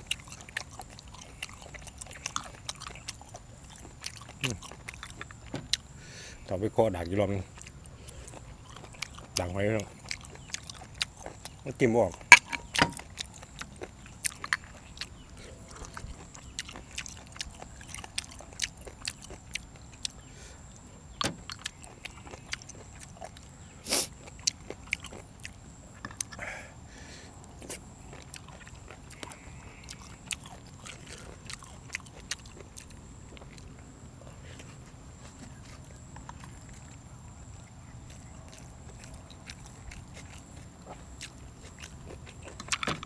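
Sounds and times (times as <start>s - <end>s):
chewing and mouth noises: 0.0s - 26.5s, 27.3s - 43.0s.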